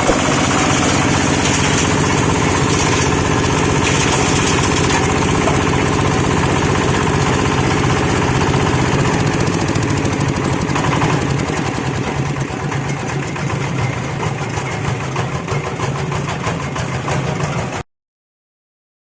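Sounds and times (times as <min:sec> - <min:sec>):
diesel engine running: 0:00.0 - 0:17.8.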